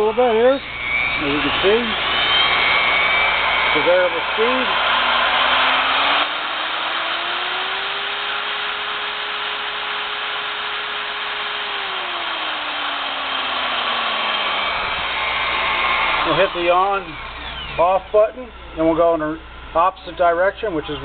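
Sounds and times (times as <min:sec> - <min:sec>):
drill press motor whine: 0:00.0 - 0:21.0.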